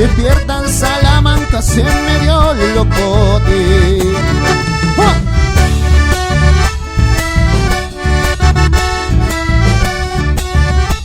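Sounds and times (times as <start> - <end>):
accordion playing chords: 0.0 - 11.0
bass and drum beat: 0.0 - 11.0.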